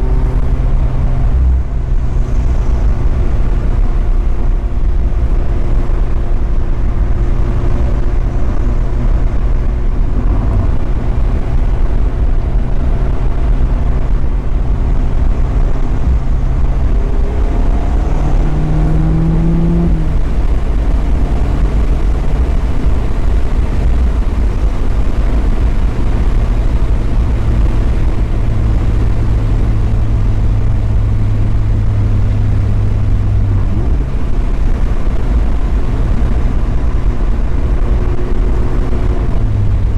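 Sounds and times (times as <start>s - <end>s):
car engine running: 0.0s - 39.9s
low road rumble: 0.0s - 39.9s.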